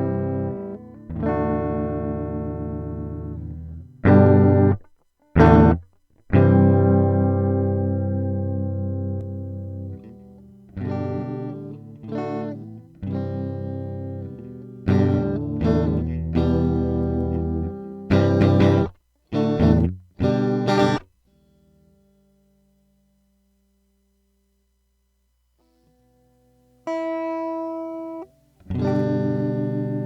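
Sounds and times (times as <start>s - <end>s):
electric guitar chords: 0.0s - 22.2s, 25.6s - 30.0s.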